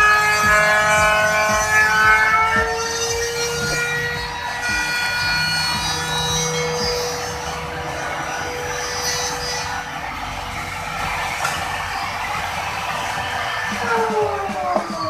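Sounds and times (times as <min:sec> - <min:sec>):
router high whine: 0:00.0 - 0:15.0.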